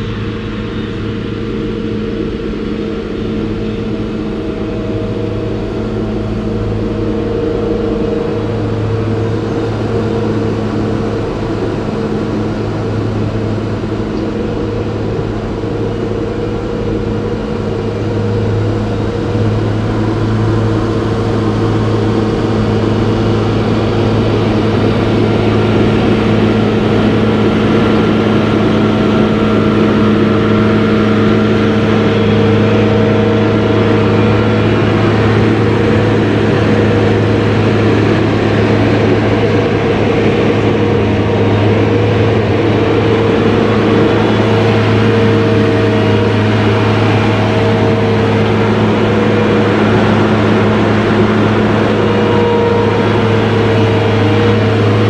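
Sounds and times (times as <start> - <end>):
mechanical drone with low tones: 0.0 - 55.0
rushing noise: 0.0 - 55.0.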